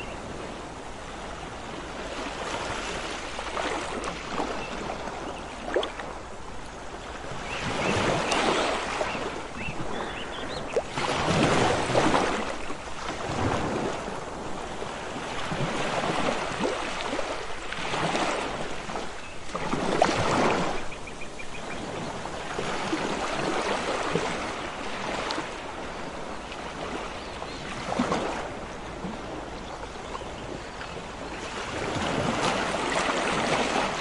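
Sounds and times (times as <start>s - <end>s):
waves washing onto beach: 0.0s - 34.0s.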